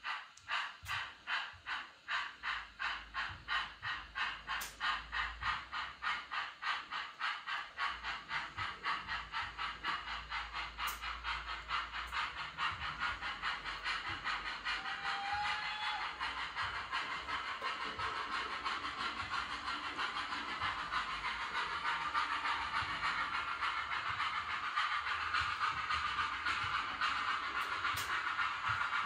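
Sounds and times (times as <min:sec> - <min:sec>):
model steam locomotive chuffs: 0:00.0 - 0:29.0.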